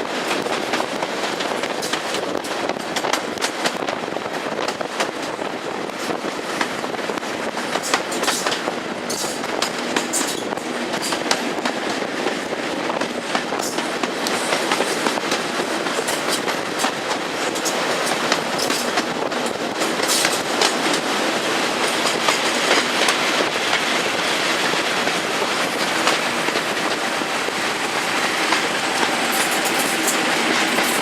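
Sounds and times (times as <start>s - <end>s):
train wheels clattering on rails: 0.0s - 31.0s.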